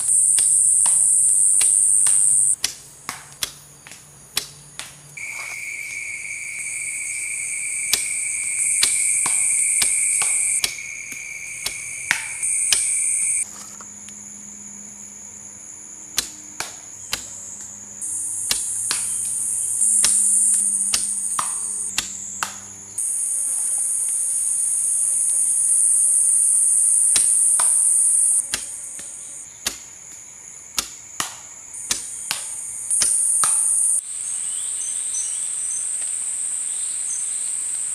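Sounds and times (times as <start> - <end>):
insects chirring: 0.0 - 37.9.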